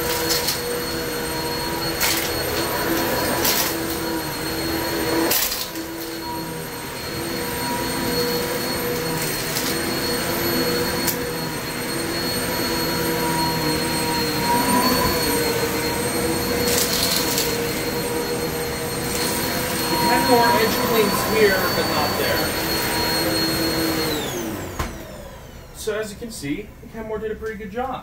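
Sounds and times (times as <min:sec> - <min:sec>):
vacuum cleaner motor whine: 0:00.0 - 0:27.6.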